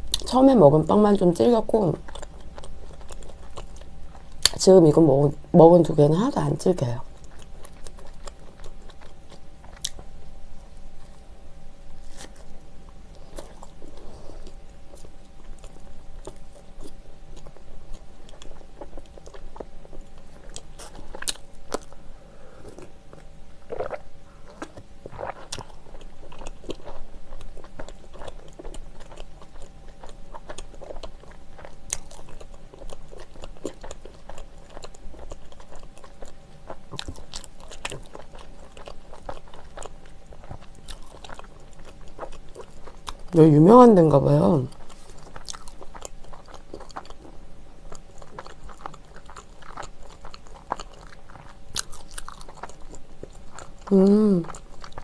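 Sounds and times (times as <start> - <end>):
chewing with wet mouth clicks: 2.0 - 4.6, 7.0 - 10.1, 12.1 - 22.0, 22.6 - 43.4, 44.7 - 55.0.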